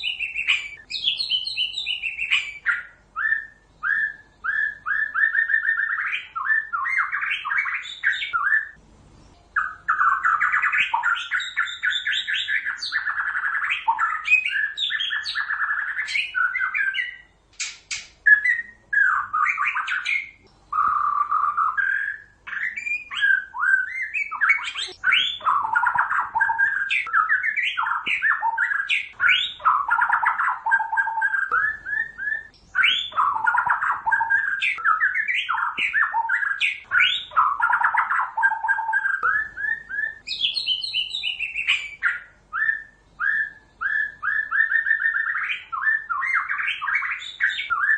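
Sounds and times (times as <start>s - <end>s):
bird singing whistled song: 0.0s - 47.9s.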